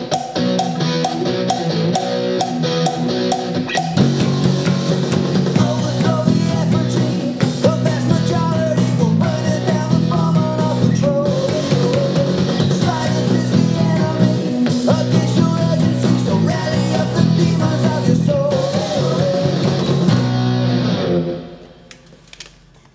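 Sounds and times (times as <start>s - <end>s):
rock song with singing: 0.0s - 21.6s
bass guitar low notes: 0.0s - 21.7s.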